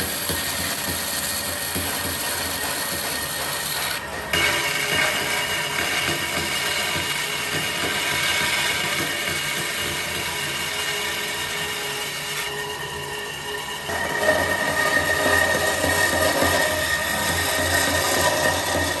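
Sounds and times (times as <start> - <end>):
electric power tool on wood: 0.0 - 19.0.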